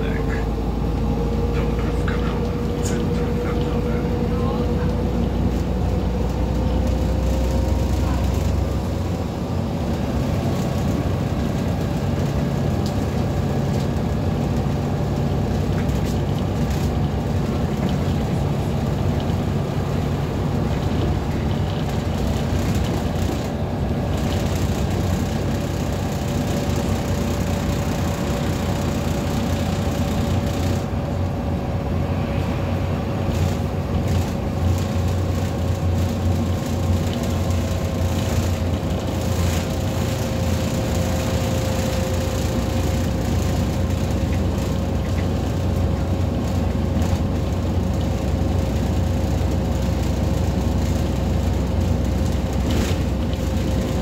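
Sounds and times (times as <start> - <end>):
bus engine running: 0.0 - 54.0
drivetrain whine: 0.0 - 54.0.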